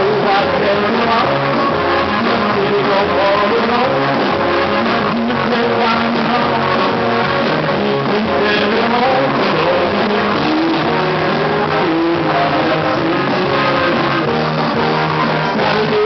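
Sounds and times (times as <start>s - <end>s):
drums: 0.0s - 16.0s
electronic keyboard: 0.0s - 16.0s.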